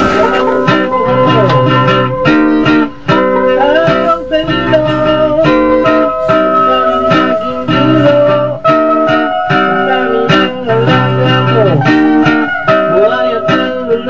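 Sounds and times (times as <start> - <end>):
guitar music with slides: 0.0 - 14.0.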